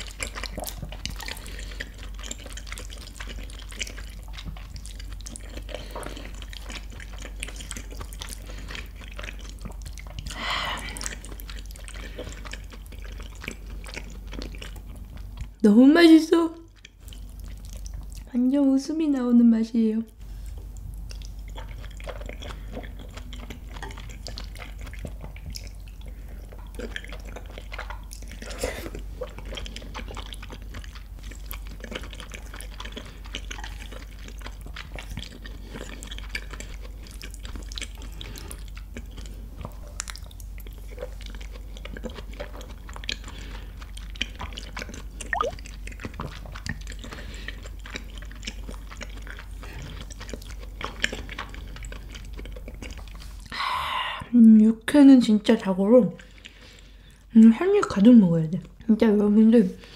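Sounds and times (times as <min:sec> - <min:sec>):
wet chewing with mouth clicks: 0:00.0 - 0:15.7, 0:16.4 - 0:19.2, 0:19.9 - 0:53.6, 0:54.2 - 0:59.9.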